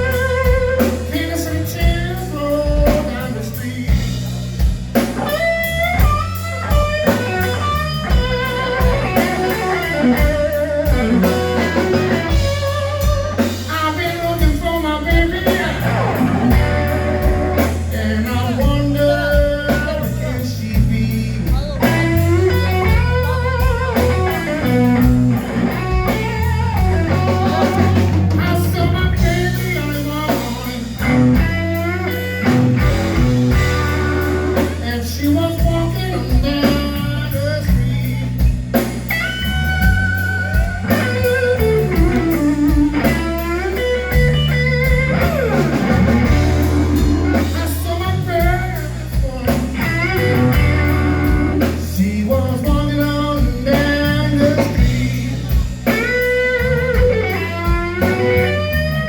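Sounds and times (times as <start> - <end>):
bass: 0.0 - 59.0
drums: 0.0 - 59.0
lead electric guitar: 0.0 - 59.0.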